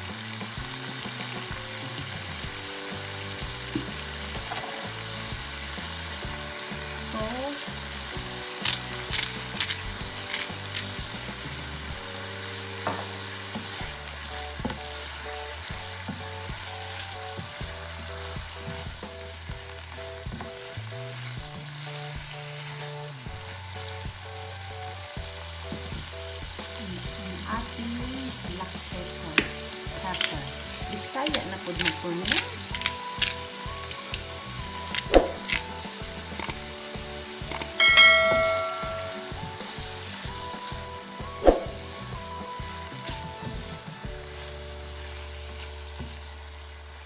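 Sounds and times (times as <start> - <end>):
food sizzling in a frying pan: 0.0 - 47.0.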